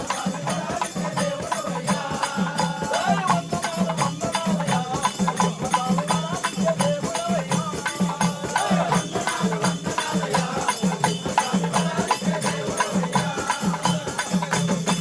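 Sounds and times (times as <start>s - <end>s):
person singing: 0.0s - 14.6s
drum beat: 0.0s - 15.0s
jingling tambourine: 0.0s - 15.0s.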